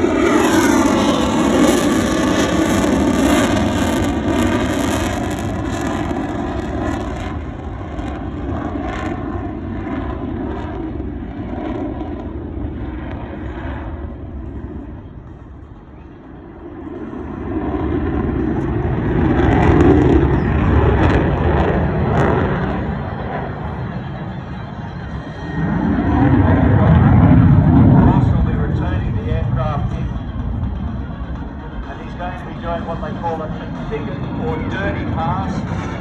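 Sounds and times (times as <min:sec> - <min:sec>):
fighter jet rumble: 0:00.0 - 0:36.0.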